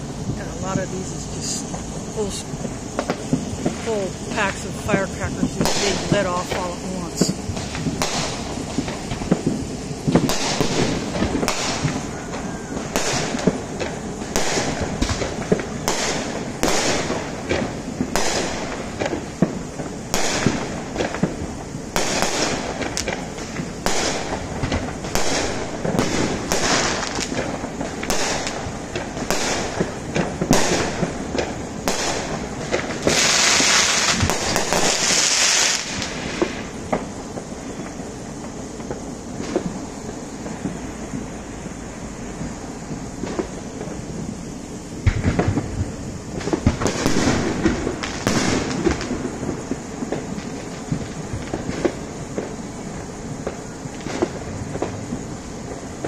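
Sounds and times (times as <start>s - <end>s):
firework hissing burst: 0.0s - 56.0s
fireworks bangs and pops: 0.0s - 56.0s.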